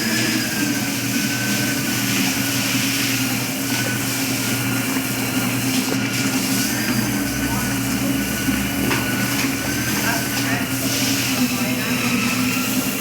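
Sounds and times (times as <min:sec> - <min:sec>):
washing machines running: 0:00.0 - 0:13.0.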